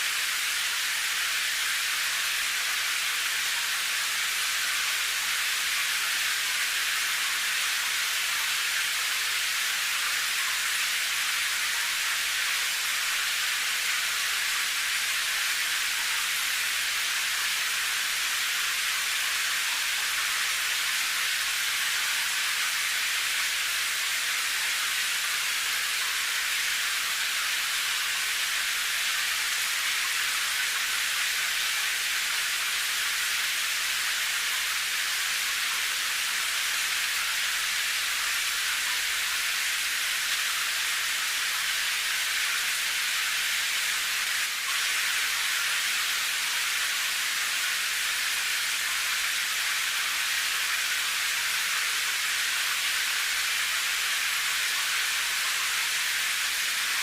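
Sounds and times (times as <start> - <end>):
rain hissing: 0.0 - 57.0.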